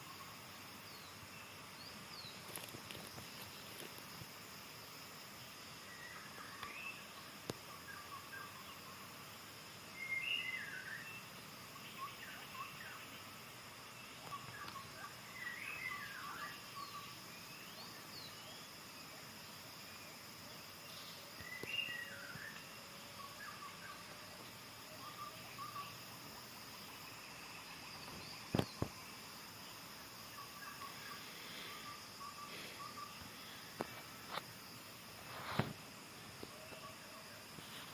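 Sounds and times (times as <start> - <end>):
insect drone: 0.0 - 37.9.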